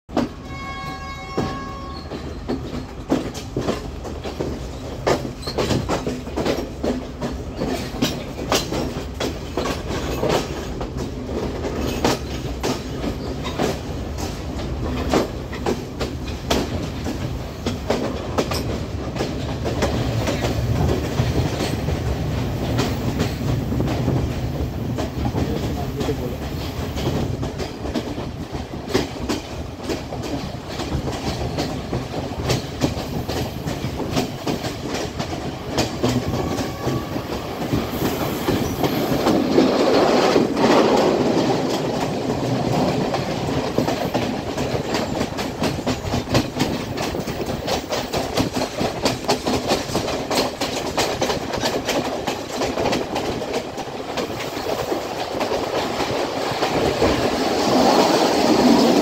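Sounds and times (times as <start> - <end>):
train running rumble: 0.1 - 59.0
wheels clicking over rail joints: 0.1 - 59.0.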